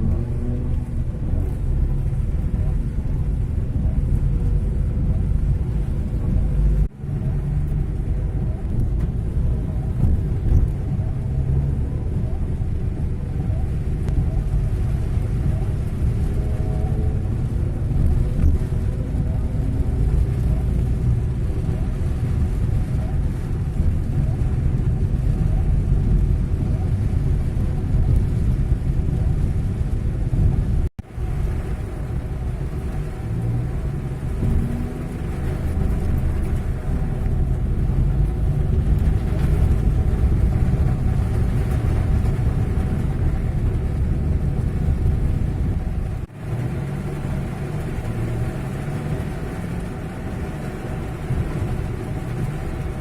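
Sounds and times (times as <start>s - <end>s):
minibus engine deep rumble: 0.0s - 53.0s.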